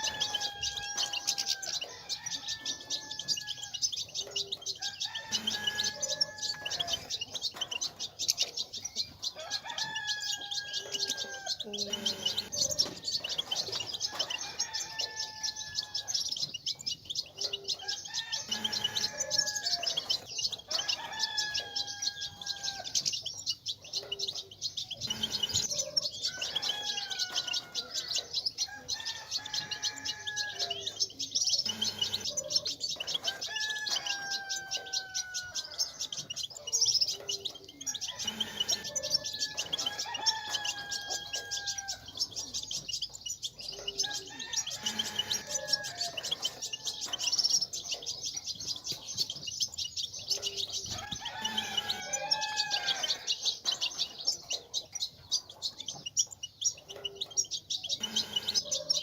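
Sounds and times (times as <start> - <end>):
goldfinches twittering: 0.0 - 59.0.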